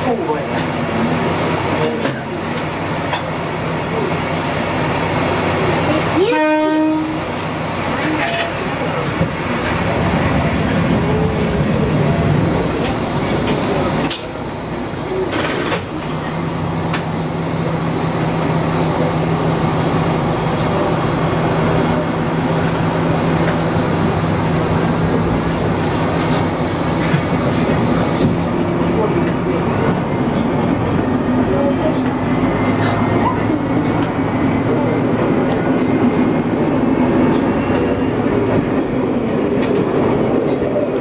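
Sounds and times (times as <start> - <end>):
diesel railcar engine drone: 0.0 - 41.0
rail running noise: 0.0 - 41.0.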